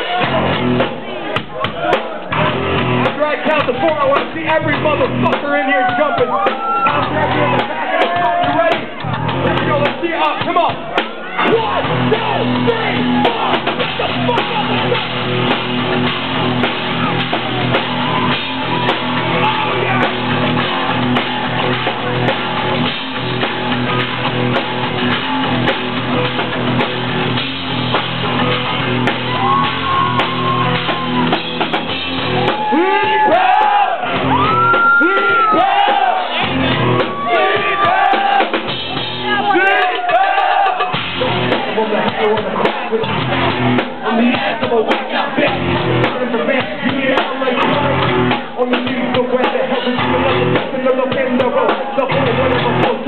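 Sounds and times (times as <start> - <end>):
loud rock music: 0.0 - 53.0
voices shouting and singing: 0.0 - 53.0.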